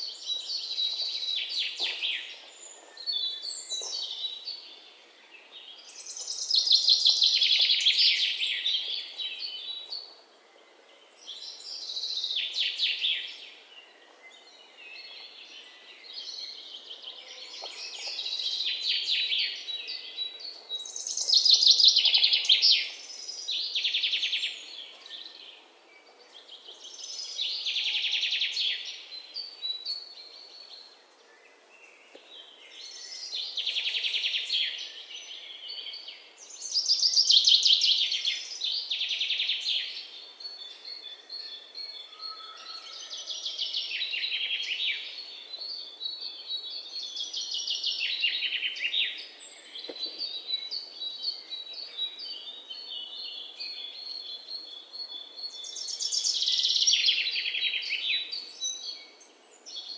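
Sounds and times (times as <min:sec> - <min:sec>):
faint outdoor background noise: 0:00.0 - 0:59.9.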